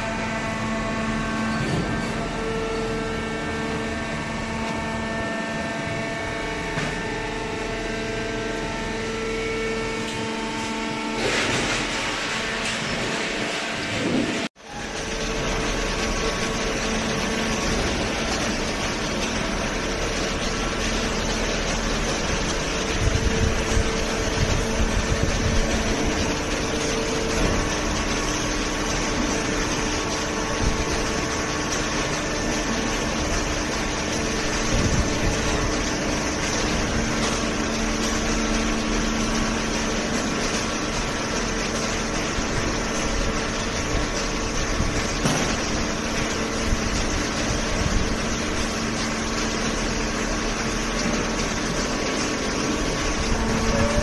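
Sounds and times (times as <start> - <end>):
baler machine drone: 0.0 - 54.0.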